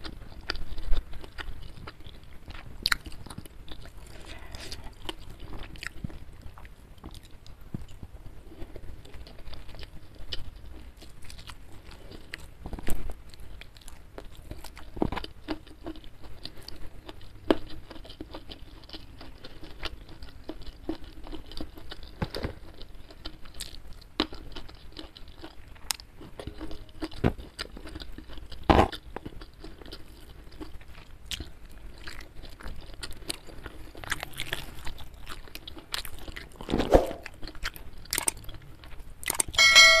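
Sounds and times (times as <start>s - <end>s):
chewing with wet mouth noises: 0.0s - 39.6s
food crunching: 0.0s - 39.6s.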